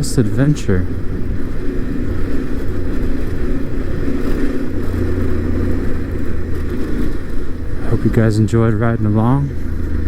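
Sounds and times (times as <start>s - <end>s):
motorcycle engine cruising: 0.0s - 10.0s
road noise: 0.0s - 10.0s
wind noise: 0.0s - 10.0s.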